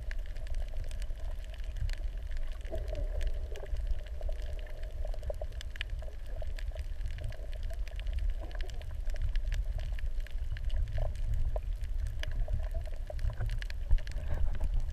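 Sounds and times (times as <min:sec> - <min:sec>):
muffled underwater rumble: 0:00.0 - 0:14.9
small underwater clicks and crackles: 0:00.0 - 0:14.9.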